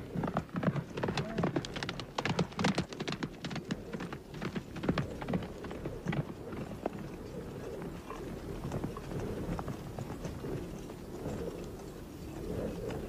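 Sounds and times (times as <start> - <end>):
horse hooves galloping: 0.0 - 13.0.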